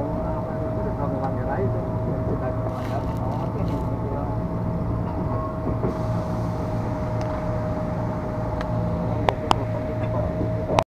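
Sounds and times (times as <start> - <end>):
electric train rumble and hum: 0.0 - 10.8.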